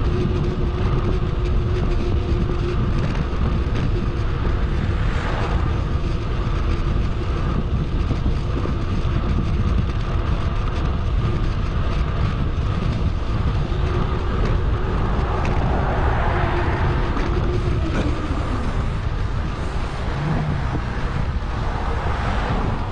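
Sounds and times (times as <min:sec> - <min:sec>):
wind rushing over microphone: 0:00.0 - 0:22.9.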